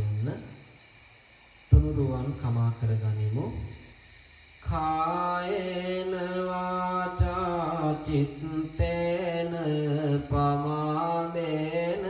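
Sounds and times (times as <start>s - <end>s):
man chanting into microphone: 0.0s - 0.6s, 1.7s - 3.8s, 4.6s - 12.0s.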